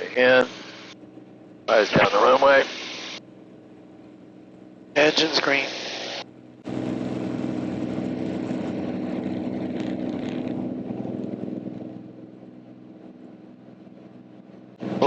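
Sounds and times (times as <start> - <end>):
aircraft engine and propeller drone: 0.0 - 15.0.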